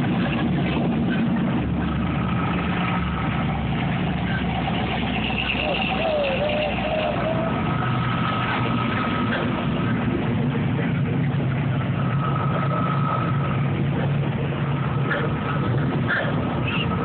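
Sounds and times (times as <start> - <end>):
car engines driving slowly past: 0.0 - 17.0.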